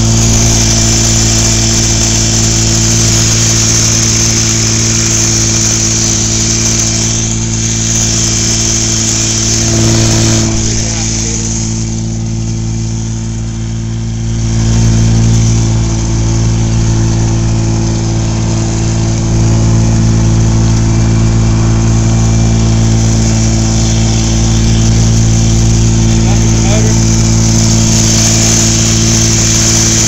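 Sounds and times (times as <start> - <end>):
small boat motor running: 0.0 - 30.0.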